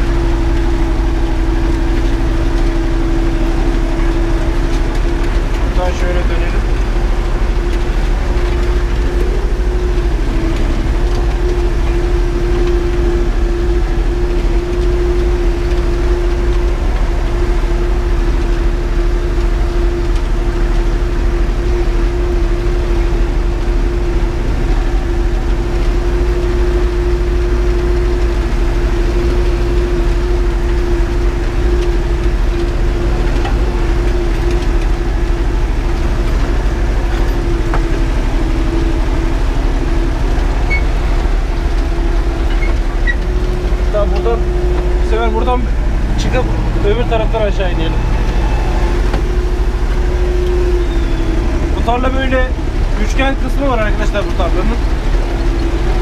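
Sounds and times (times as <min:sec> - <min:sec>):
steady whine: 0:00.0 - 0:56.0
tractor diesel engine running: 0:00.0 - 0:56.0.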